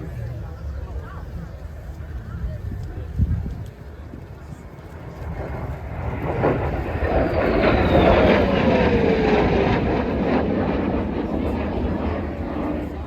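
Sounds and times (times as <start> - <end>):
aircraft flying past overhead: 0.0 - 13.0.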